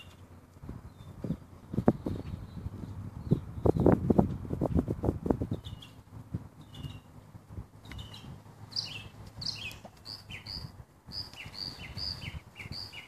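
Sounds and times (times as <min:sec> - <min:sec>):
songbird chirping: 0:00.0 - 0:04.4, 0:05.4 - 0:13.0.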